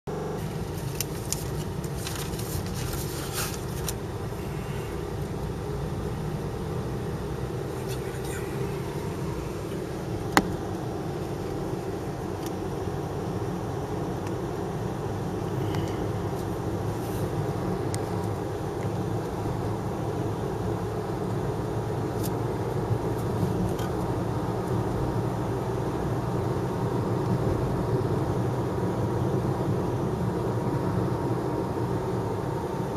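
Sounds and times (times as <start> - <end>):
car engine and road rumble: 0.0 - 32.9.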